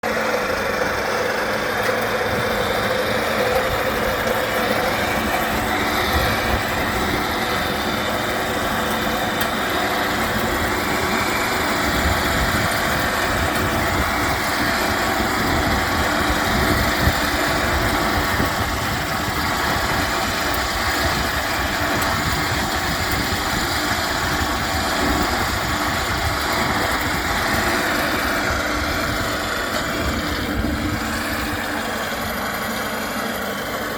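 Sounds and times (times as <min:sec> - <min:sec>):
electric lawn mower running: 0:00.0 - 0:33.9.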